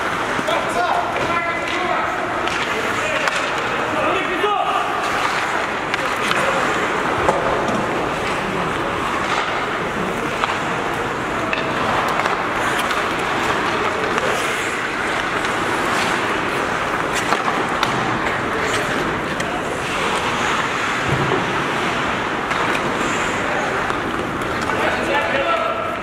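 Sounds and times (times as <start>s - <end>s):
hockey sticks and puck clicking: 0.0s - 26.0s
skates scraping ice: 0.0s - 26.0s.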